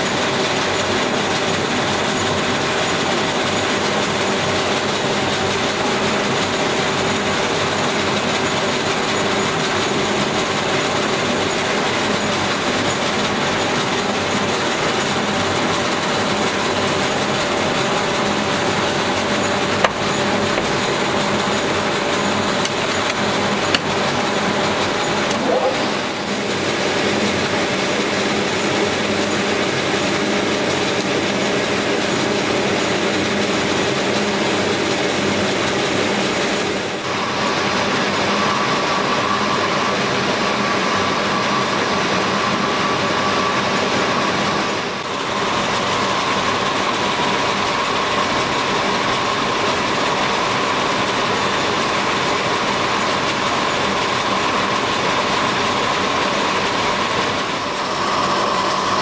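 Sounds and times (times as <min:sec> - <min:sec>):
loud steady machinery noise: 0:00.0 - 0:59.0
steady high whine: 0:04.4 - 0:59.0.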